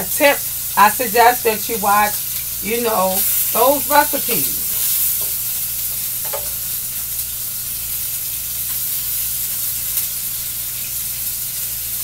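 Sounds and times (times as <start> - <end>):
fish sizzling in a hot pan: 0.0 - 12.0.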